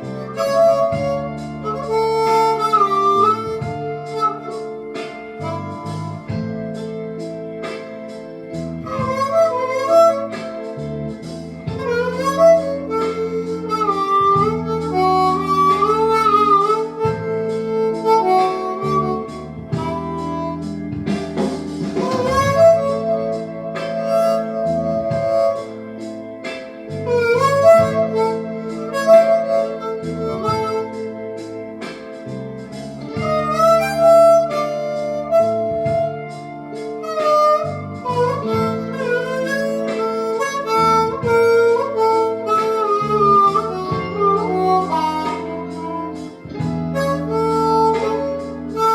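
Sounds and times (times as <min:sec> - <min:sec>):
blues harmonica melody: 0:00.0 - 0:48.9
sustained backing chords: 0:00.0 - 0:48.9.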